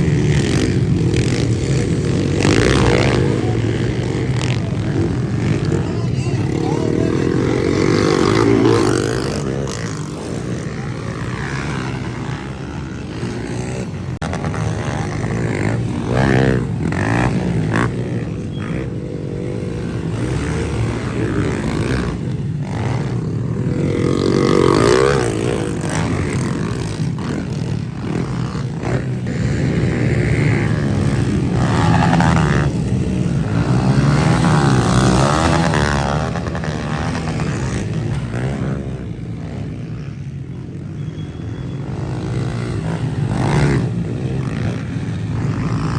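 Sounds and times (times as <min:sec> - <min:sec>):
motorbike engines revving: 0:00.0 - 0:45.9.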